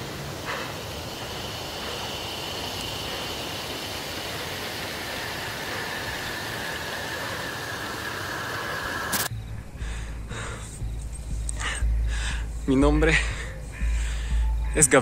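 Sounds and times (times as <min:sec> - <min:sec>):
steady rushing noise: 0:00.0 - 0:14.1.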